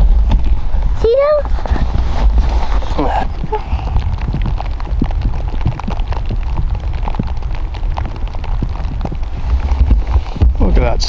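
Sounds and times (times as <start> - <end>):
rain falling: 0.0 - 11.0
steady low rumble: 0.0 - 11.0.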